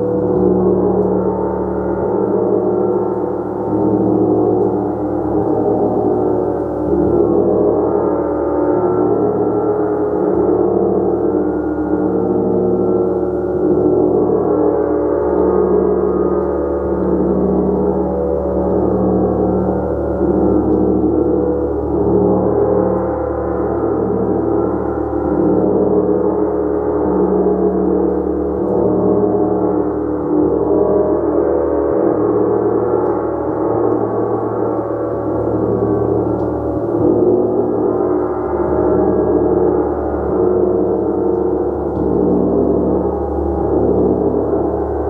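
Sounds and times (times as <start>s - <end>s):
gong played: 0.0s - 45.0s.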